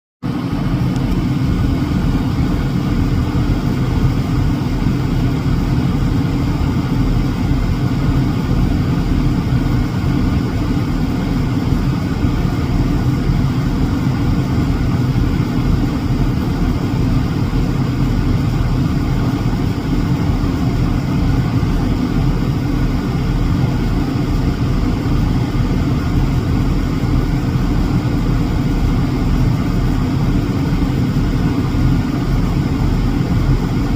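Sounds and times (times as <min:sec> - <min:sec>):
steady low rumble: 0:00.2 - 0:33.9.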